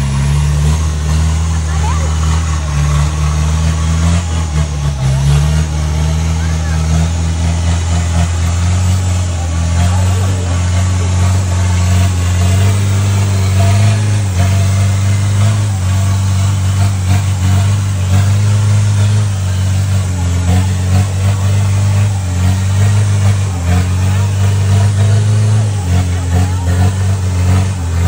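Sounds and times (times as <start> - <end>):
off-road truck engine droning: 0.0 - 28.0.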